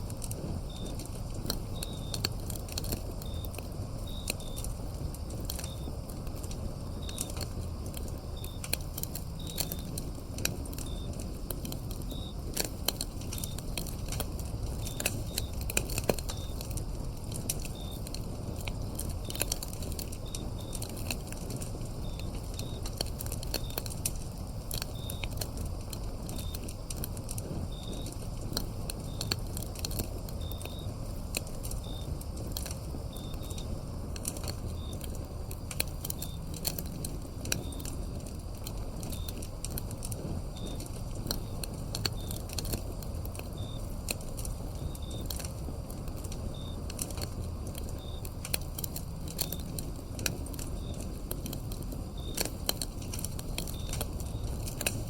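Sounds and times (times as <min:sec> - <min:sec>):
crickets chirping: 0:00.0 - 0:55.0
firewood crackling and popping: 0:00.0 - 0:55.0.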